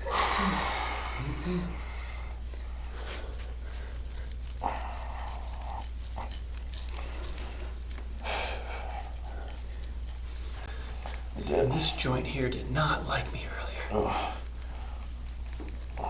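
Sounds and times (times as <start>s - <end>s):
noisy breaths: 0.0s - 11.8s, 13.4s - 16.0s
steady low hum: 0.0s - 16.0s.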